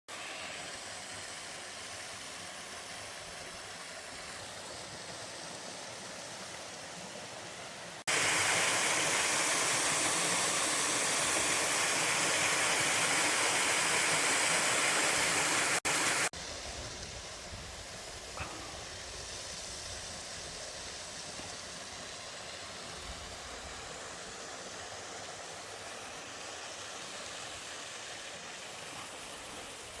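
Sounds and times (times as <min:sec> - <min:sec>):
water rushing: 0:00.1 - 0:30.0.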